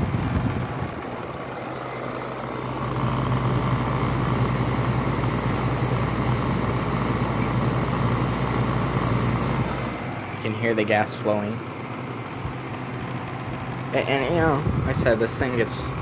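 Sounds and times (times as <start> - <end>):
compressor humming: 0.0 - 16.0
window air conditioner fan running: 0.0 - 16.0.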